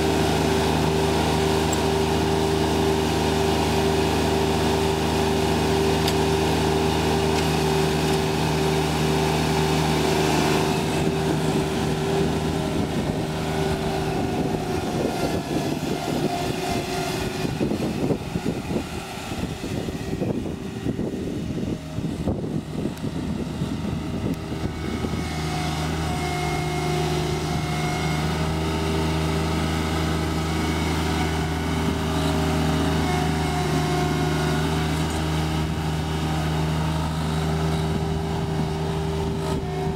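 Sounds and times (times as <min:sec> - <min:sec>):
diesel mower engine running: 0:00.0 - 0:39.9.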